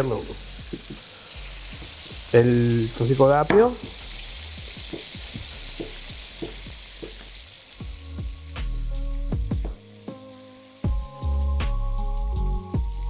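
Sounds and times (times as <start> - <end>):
background music: 0.0 - 13.0
meat sizzling in a pan: 0.0 - 13.0.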